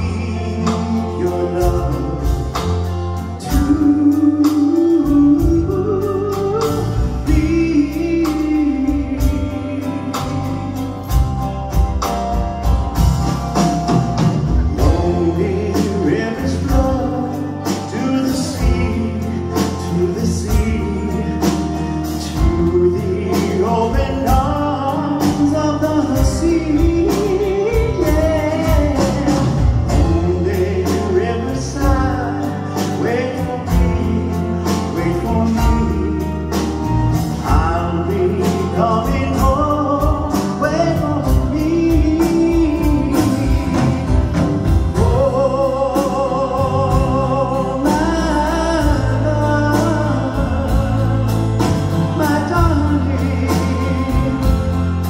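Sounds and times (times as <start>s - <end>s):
man singing into microphone: 0.0s - 11.2s, 14.5s - 55.0s
drum kit beat: 0.0s - 55.0s
electric bass: 0.0s - 55.0s.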